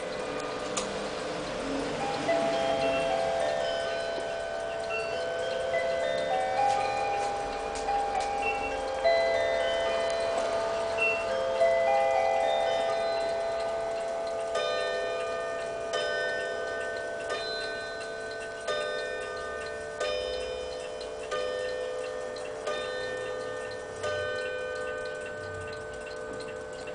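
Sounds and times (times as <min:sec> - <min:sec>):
clock chiming on bells: 0:00.0 - 0:26.9.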